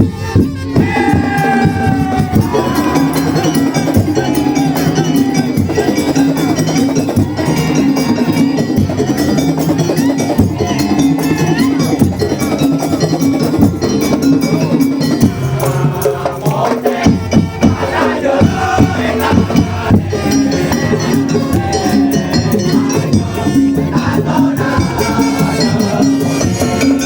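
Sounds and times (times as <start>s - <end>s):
crowd noise: 0.0s - 27.0s
percussion ensemble playing: 0.0s - 27.0s.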